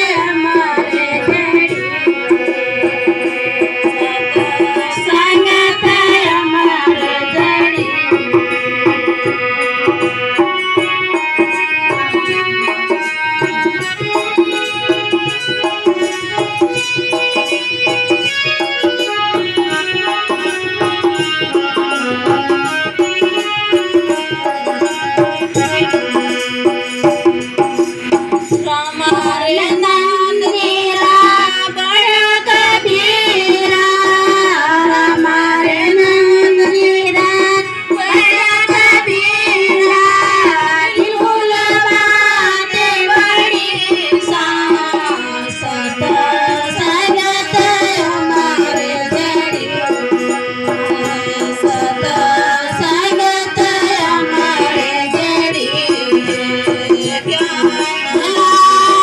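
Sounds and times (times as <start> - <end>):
hand drum beat: 0.0 - 59.0
held melody instrument: 0.0 - 59.0
voices singing: 11.7 - 59.0.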